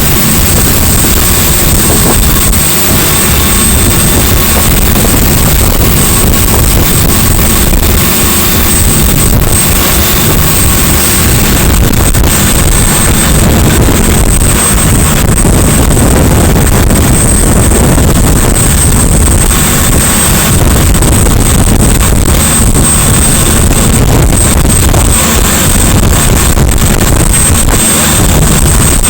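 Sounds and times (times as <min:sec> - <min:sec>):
motorboat engine running fast: 0:00.0 - 0:29.0
thin high whine: 0:00.0 - 0:29.0
wind buffeting microphone: 0:00.0 - 0:29.0.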